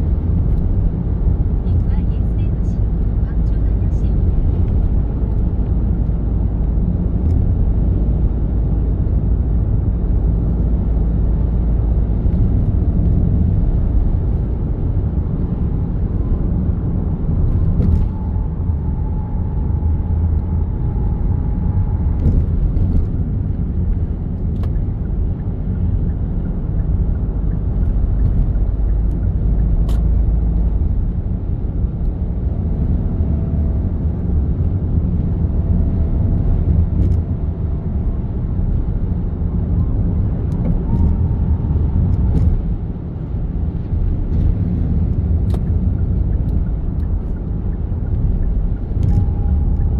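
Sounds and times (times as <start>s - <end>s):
car road rumble: 0.0s - 49.9s.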